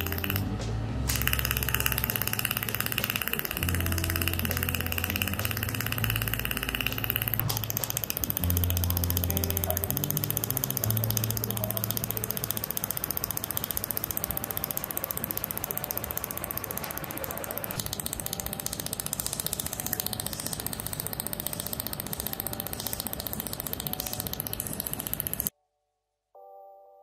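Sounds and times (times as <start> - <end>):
laser welder ticking: 0.0 - 25.5
faint background music: 0.0 - 25.6.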